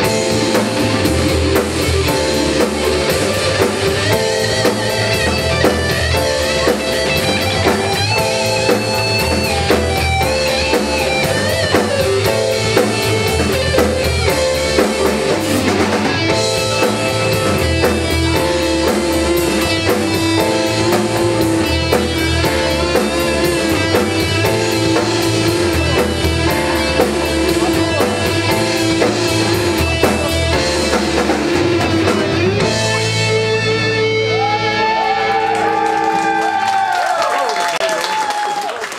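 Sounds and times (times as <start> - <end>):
drum kit beat: 0.0 - 36.9
bass guitar: 0.0 - 37.2
electric guitars: 0.0 - 37.5.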